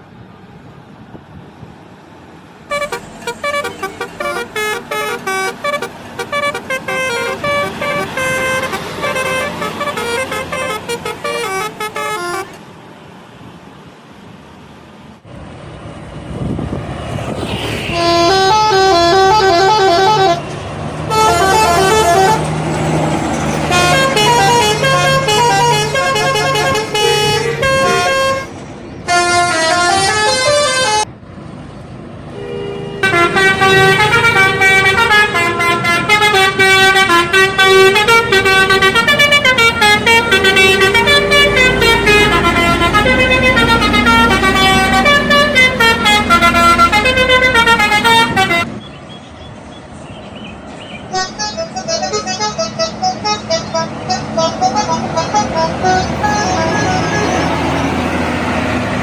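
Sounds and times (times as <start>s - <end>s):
bus horns playing tunes: 2.7s - 12.6s, 17.8s - 31.1s, 32.3s - 48.8s, 51.0s - 59.0s.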